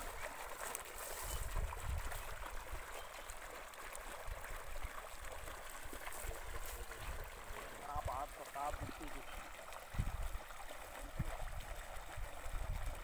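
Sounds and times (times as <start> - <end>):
water bubbling and gurgling: 0.0 - 13.0.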